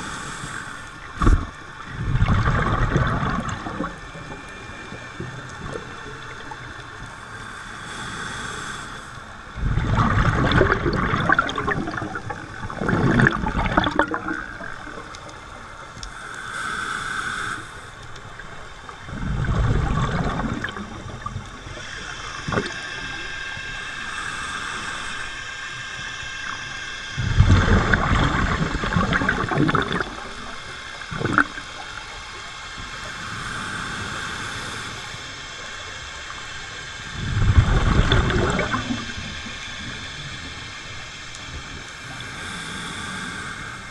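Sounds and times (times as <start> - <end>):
gurgling regulator bubbles: 0.0 - 43.9
underwater hiss: 0.0 - 43.9.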